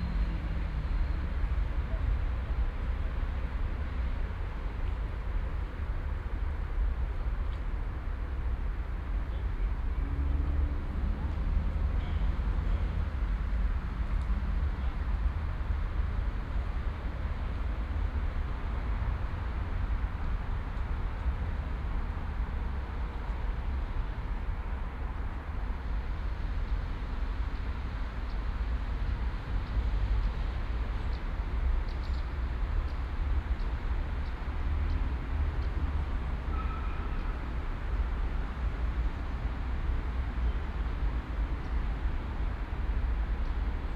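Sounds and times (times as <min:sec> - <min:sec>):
low rumble of city traffic: 0:00.0 - 0:43.9.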